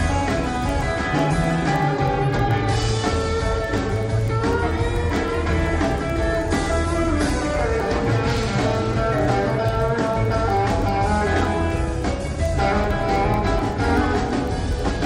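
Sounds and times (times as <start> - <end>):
blues guitar music: 0.0 - 15.0
low bass line: 0.0 - 15.0.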